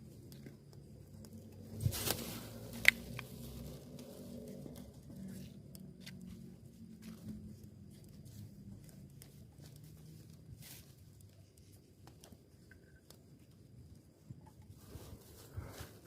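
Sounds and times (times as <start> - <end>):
soft ticks and rustles: 0.0 - 16.0.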